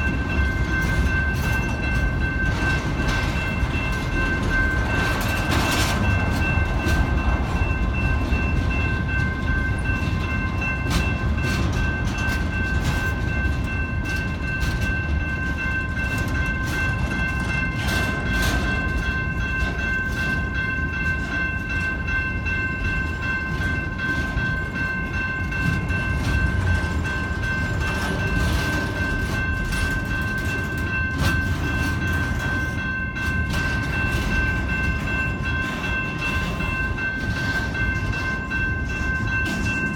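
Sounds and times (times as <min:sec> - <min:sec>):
freight train rumbling on rails: 0:00.0 - 0:39.9
train cars clanking: 0:00.0 - 0:39.9.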